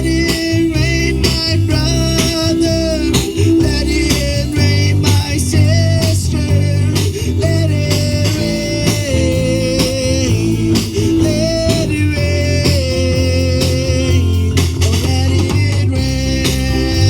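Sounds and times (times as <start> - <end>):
live gospel band music: 0.0 - 17.0.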